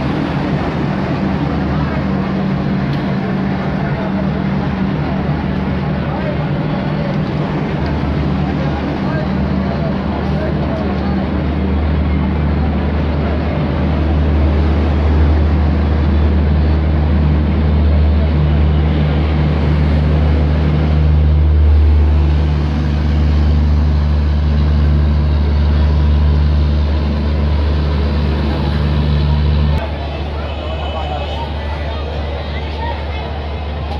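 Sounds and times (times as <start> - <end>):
general noise: 0.0 - 33.9
locomotive engine droning: 0.0 - 33.9.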